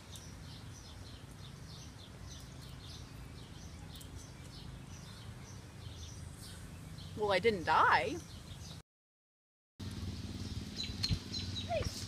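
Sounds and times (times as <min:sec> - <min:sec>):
bird chirping: 0:00.0 - 0:08.8, 0:10.0 - 0:12.0.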